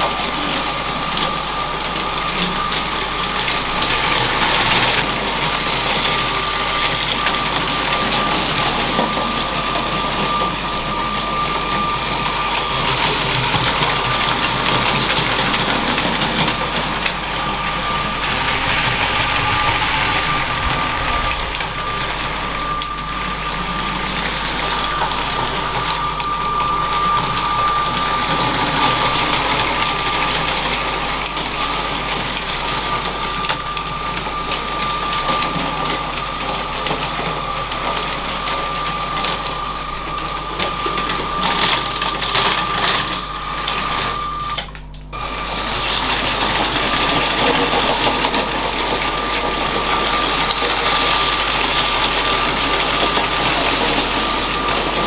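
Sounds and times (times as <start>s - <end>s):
toy train motor whine: 0.0s - 55.0s
wheels rattling on plastic track: 0.0s - 55.0s.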